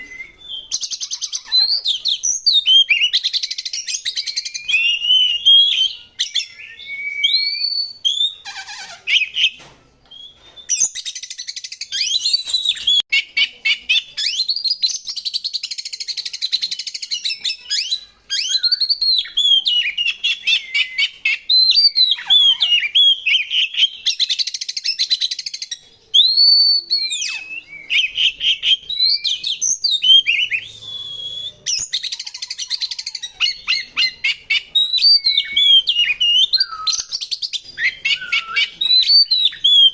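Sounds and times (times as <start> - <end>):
bird harsh chattering: 0.0 - 6.7, 10.7 - 39.9
bird singing whistled notes: 0.0 - 8.4, 9.1 - 39.9.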